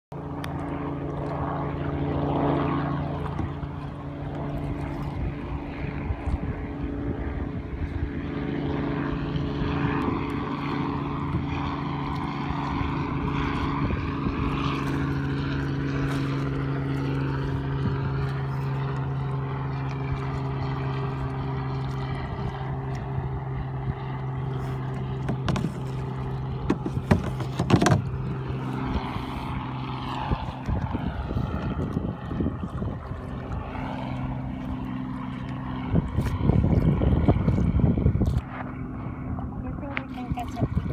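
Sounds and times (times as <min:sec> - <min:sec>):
propeller airplane engine droning: 0:00.1 - 0:40.9.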